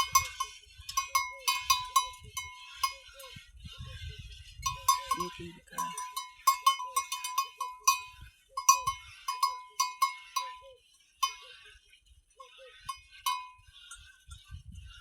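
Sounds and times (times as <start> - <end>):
cowbell clanking: 0.0 - 3.4, 4.6 - 11.8, 12.4 - 14.6.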